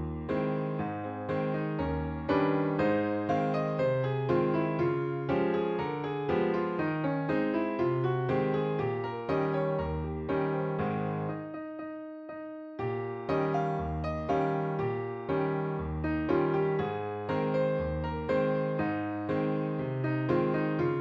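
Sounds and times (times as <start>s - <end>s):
gentle piano tune: 0.0s - 21.0s.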